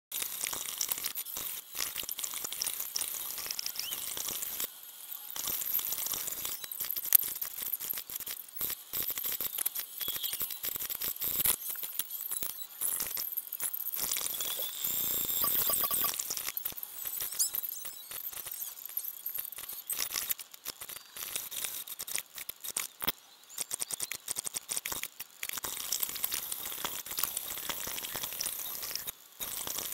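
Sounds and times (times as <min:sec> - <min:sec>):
digital crackles and clicks: 0:00.1 - 0:29.9.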